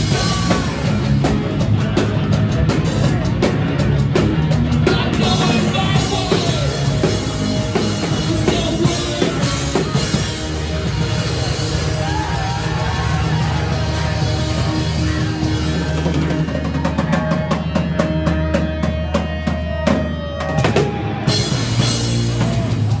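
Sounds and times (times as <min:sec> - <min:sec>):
bass guitar: 0:00.0 - 0:23.0
distorted electric guitar: 0:00.0 - 0:23.0.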